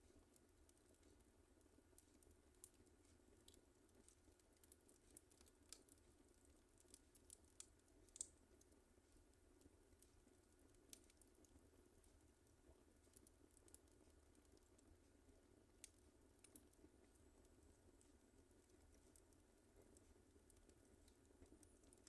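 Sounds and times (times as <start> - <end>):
fireplace fire crackling: 0.0 - 22.0
fire snaps and pops: 0.3 - 22.0.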